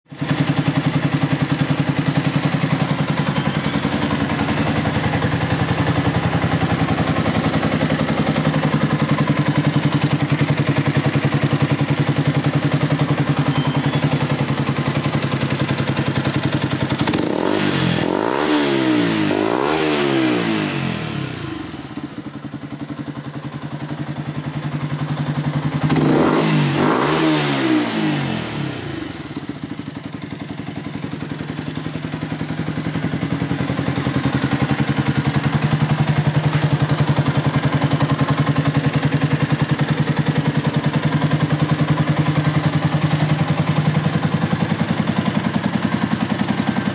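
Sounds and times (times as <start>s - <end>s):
motorcycle engine idling: 0.1s - 46.9s
motorcycle engine revving: 0.1s - 46.9s.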